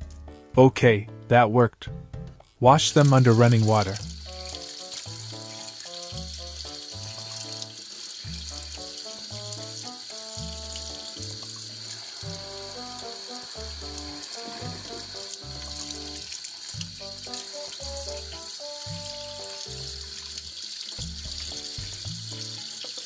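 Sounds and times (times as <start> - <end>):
background music with steady beat: 0.0 - 23.0
tap water running into sink: 2.9 - 23.0.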